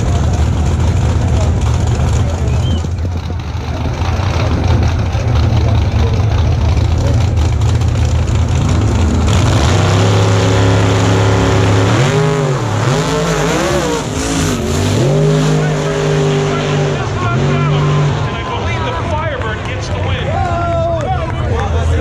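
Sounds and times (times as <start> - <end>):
drag racing car engines revving: 0.0 - 22.0.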